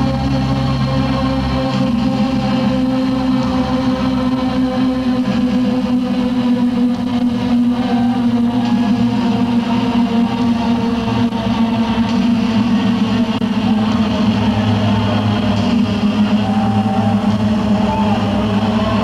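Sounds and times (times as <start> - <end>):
rock band droning: 0.0 - 19.0.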